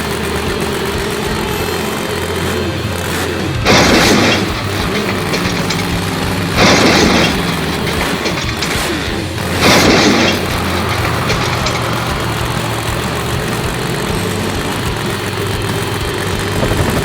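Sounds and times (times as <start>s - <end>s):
loud bursts of noise: 0.0s - 17.0s
truck engine idling: 0.0s - 17.0s.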